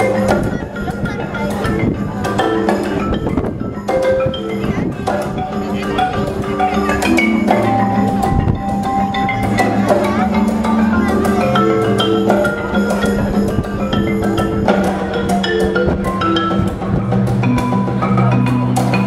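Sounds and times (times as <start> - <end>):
marimbas playing: 0.0 - 19.0.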